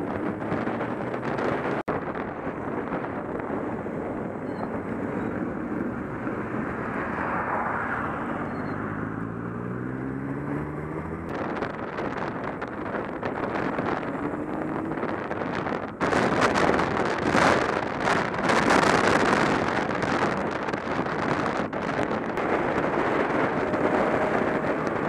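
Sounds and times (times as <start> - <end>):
wind rushing on microphone: 0.0 - 25.0.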